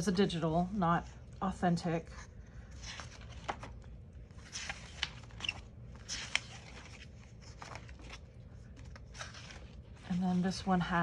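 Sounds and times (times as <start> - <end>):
paper rustling: 2.1 - 11.0.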